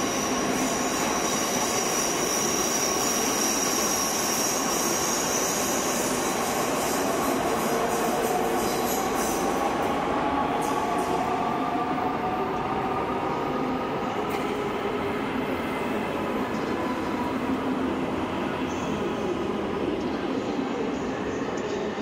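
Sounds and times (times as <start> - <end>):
train wheels rumbling on rail: 0.0 - 20.2.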